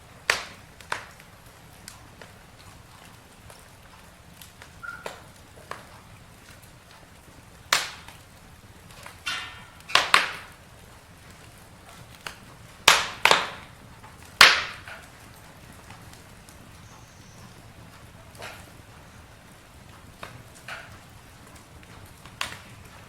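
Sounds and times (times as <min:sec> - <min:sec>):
campfire crackling: 0:00.0 - 0:23.0
loud pops from fire: 0:00.0 - 0:23.0.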